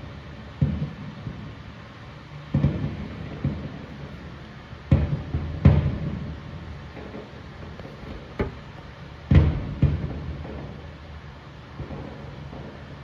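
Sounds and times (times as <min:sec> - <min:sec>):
fireworks booming: 0:00.4 - 0:01.7, 0:02.5 - 0:13.0.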